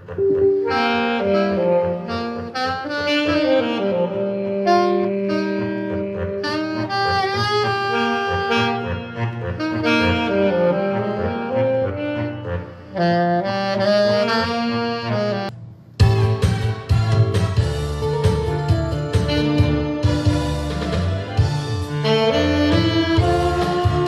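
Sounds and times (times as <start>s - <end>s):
musical accompaniment: 0.0s - 24.0s
saxophone slow melody: 0.0s - 24.0s.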